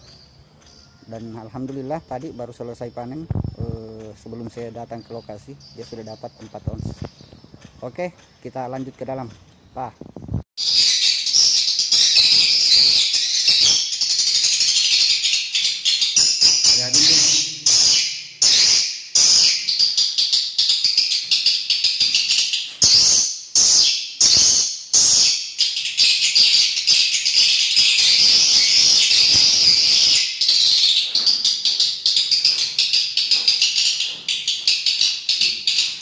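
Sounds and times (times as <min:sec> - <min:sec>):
swiftlets chirping: 0:00.0 - 0:36.0.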